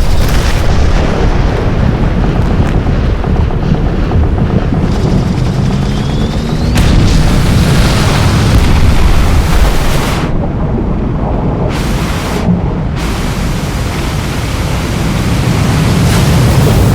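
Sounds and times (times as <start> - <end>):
deep rumble: 0.0 - 16.9
destruction roar: 0.0 - 16.9.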